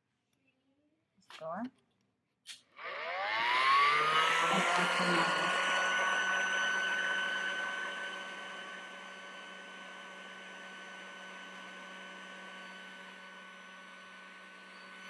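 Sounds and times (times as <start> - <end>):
electric air pump humming: 2.8 - 15.0.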